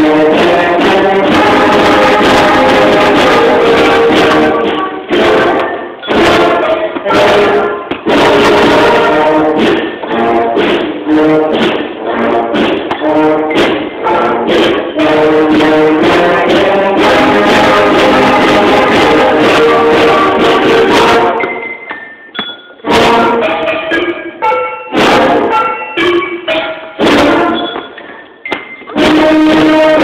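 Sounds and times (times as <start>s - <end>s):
concert band playing: 0.0s - 21.8s, 22.8s - 30.0s
sharp percussion hits: 0.0s - 30.0s.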